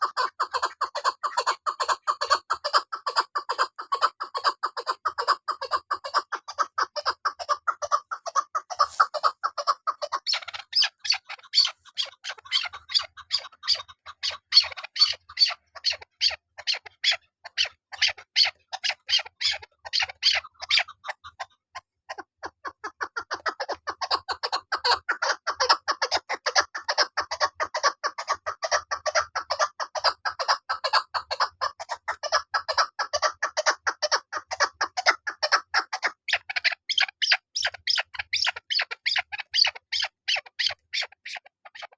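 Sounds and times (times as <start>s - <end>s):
partridge clucking call: 0.0s - 41.9s.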